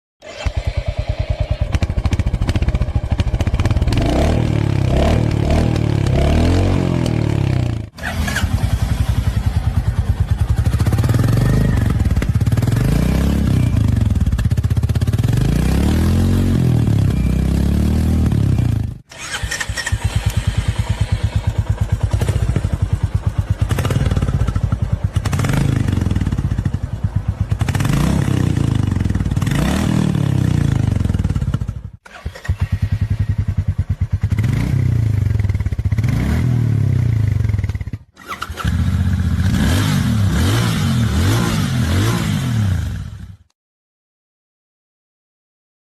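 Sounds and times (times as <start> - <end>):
motorcycle engines revving: 0.2 - 43.3.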